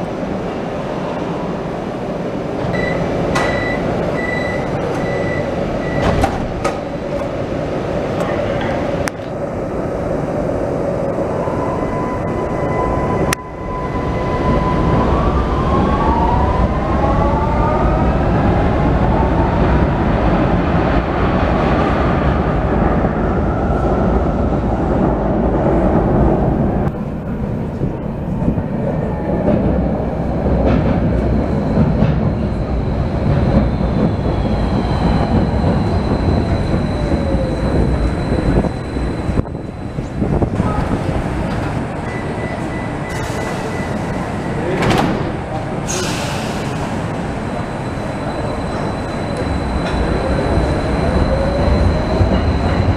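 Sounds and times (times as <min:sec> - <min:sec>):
train wheels rumbling on track: 0:00.0 - 0:52.9.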